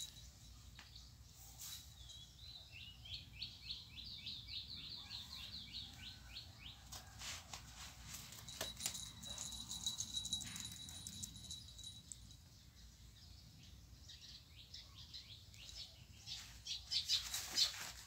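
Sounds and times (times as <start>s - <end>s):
small bird singing: 0.0s - 7.0s, 8.9s - 18.0s.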